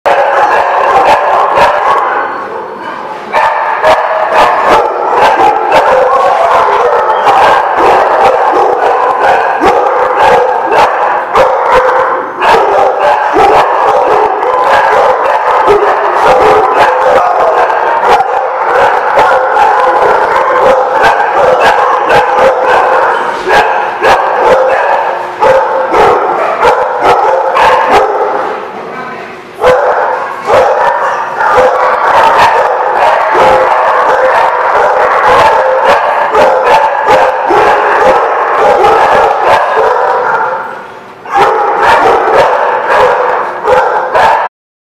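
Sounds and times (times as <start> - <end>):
dogs barking and yipping: 0.1 - 28.7, 29.5 - 44.5.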